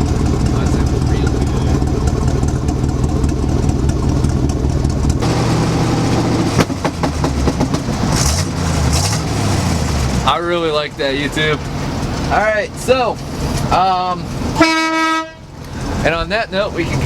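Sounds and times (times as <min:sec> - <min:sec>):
truck engine deep exhaust note: 0:00.0 - 0:17.0.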